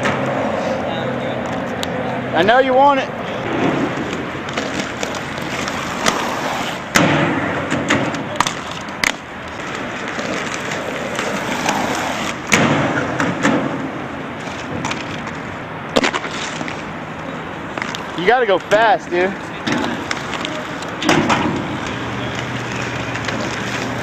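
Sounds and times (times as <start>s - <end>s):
skate wheels rolling on asphalt: 0.0s - 24.0s.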